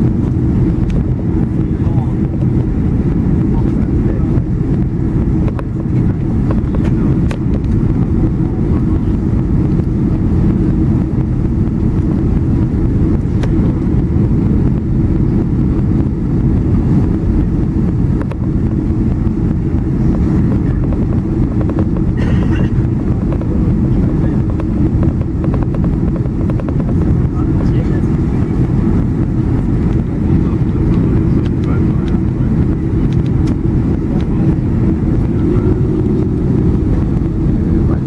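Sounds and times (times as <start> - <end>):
aircraft cabin engine rumble: 0.0 - 38.0.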